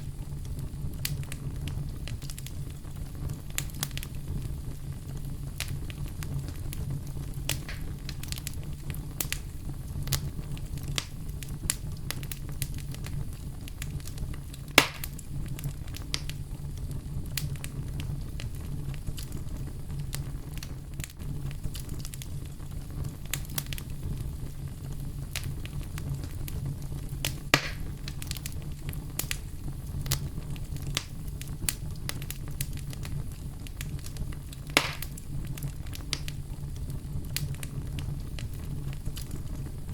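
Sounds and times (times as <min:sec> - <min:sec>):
campfire crackling: 0:00.0 - 0:39.9
loud fire pops: 0:00.0 - 0:39.9.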